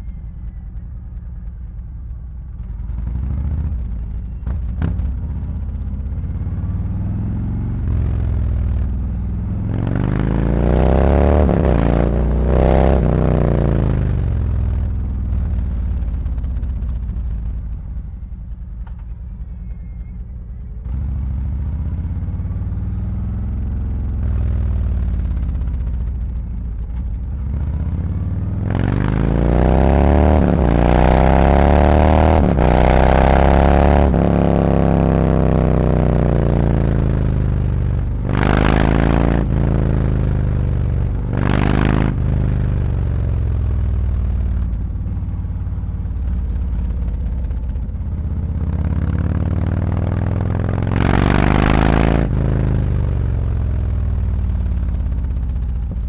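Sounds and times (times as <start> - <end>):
motorcycle engine revving: 2.6 - 56.0.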